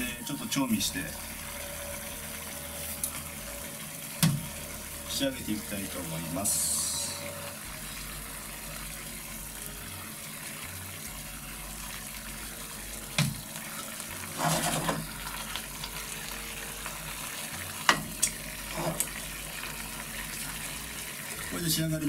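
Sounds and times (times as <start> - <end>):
broth bubbling and sizzling: 0.0 - 22.0.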